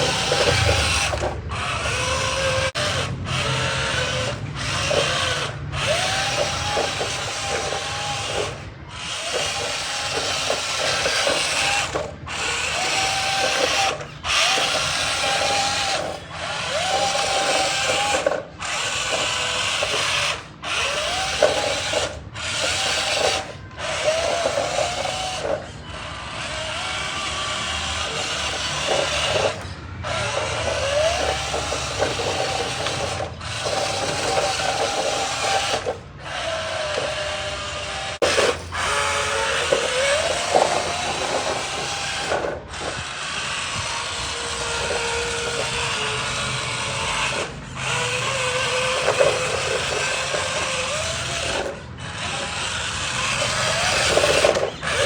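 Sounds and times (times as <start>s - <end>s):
small electric motor whirring: 0.0s - 55.0s.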